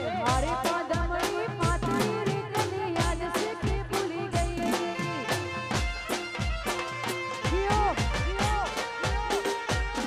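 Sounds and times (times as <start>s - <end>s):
fast drum beat: 0.0s - 10.0s.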